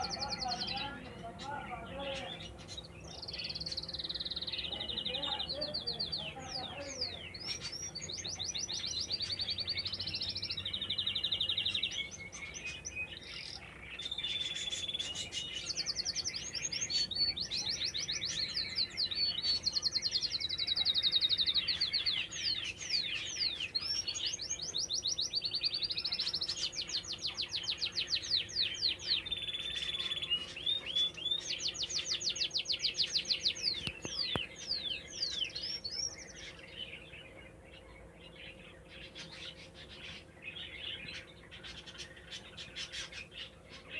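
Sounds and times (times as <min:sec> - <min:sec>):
canary singing trills: 0:00.0 - 0:43.9.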